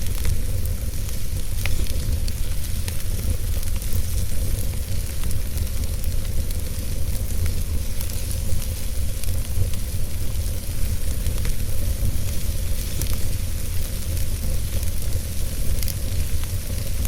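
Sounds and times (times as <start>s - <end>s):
fire crackles: 0.0s - 17.0s
fire rumbling and hissing: 0.0s - 17.0s.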